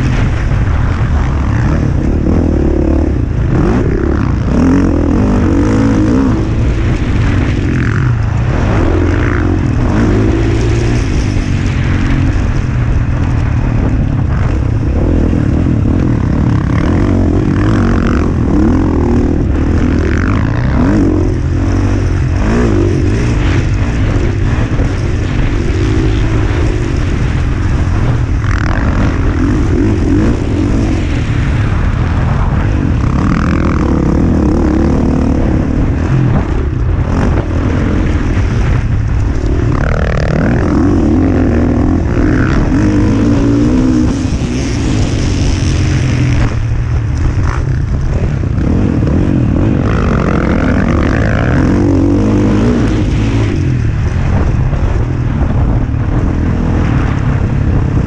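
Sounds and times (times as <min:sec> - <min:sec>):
dirt bike engine revving: 0:00.0 - 0:58.0
wind rumble on microphone: 0:00.0 - 0:58.0.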